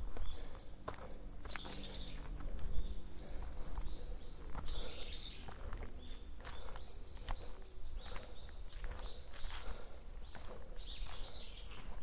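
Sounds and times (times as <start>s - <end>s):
footsteps on forest trail: 0.0s - 12.0s
bird chirping: 1.5s - 12.0s.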